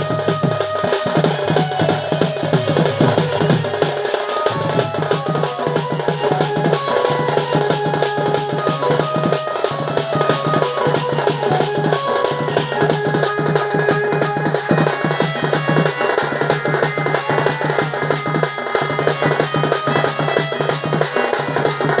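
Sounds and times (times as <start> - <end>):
fast dense drumming: 0.0 - 22.0
held melody line: 0.0 - 22.0.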